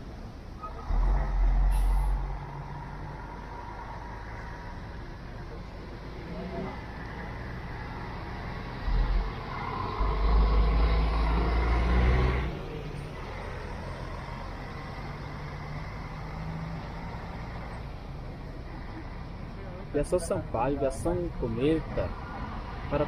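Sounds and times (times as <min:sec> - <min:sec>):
bus diesel engine passing: 0:00.0 - 0:23.0
distant bus engines humming: 0:00.0 - 0:23.0.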